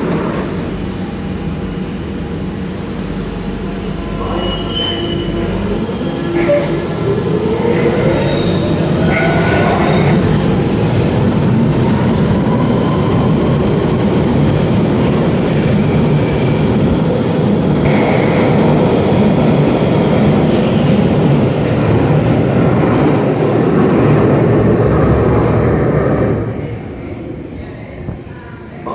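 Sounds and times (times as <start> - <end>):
train wheels and motors rumbling: 0.0 - 28.9.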